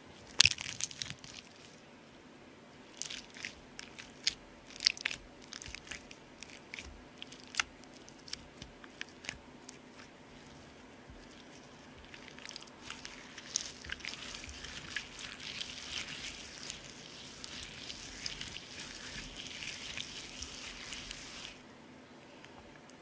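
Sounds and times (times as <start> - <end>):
slime crackling and squelching: 0.2 - 1.8, 2.9 - 21.6.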